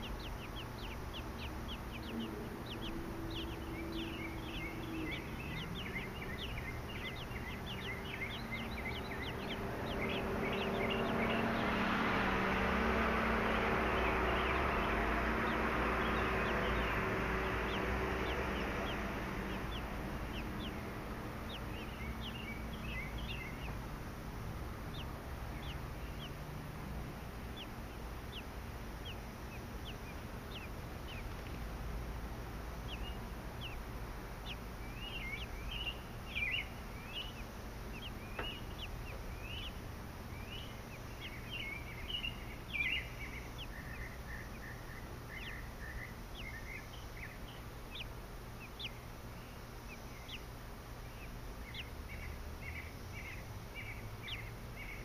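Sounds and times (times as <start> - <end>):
nestlings peeping: 0.0 - 55.0
rushing noise with low hum: 0.0 - 55.0.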